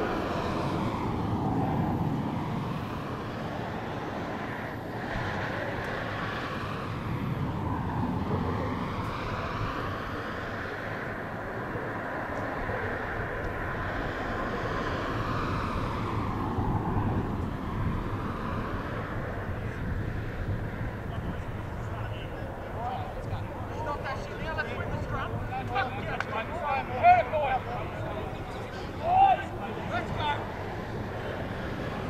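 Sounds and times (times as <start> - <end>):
aircraft engine droning overhead: 0.0 - 32.0.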